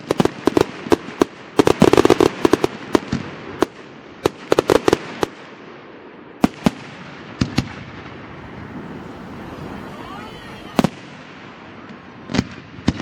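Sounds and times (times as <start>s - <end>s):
firework bangs: 0.0s - 13.0s
volley of firework cracks: 0.0s - 13.0s
steady background hiss: 0.7s - 12.9s.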